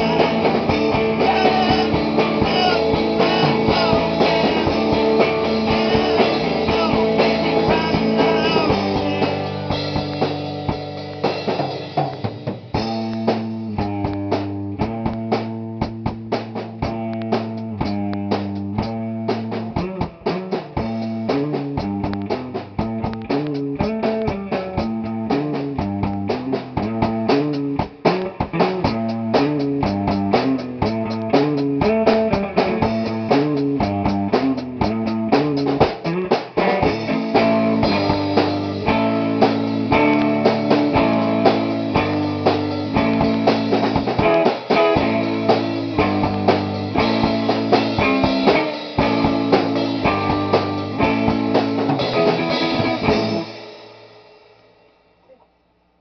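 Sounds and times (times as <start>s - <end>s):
guitar chords: 0.0s - 53.8s
drum kit beat: 0.0s - 55.0s.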